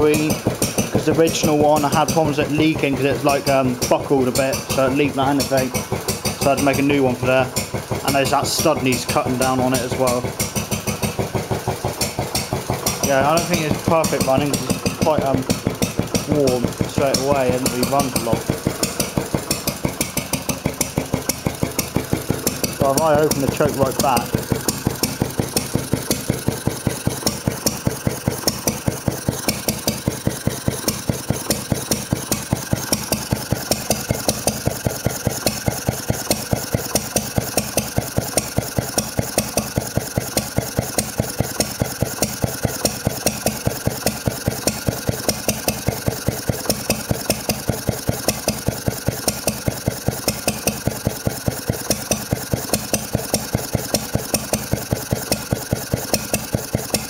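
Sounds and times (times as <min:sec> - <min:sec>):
engine misfire: 0:00.0 - 0:57.0
stationary engine running: 0:00.0 - 0:57.0.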